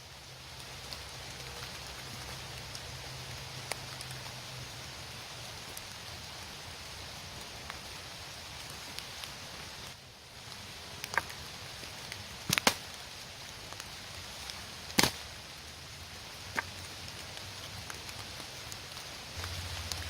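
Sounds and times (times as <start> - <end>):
rain patter: 0.0 - 20.0.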